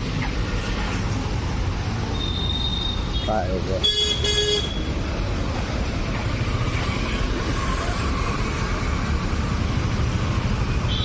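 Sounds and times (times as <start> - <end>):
cars and motorcycles passing: 0.0 - 11.0.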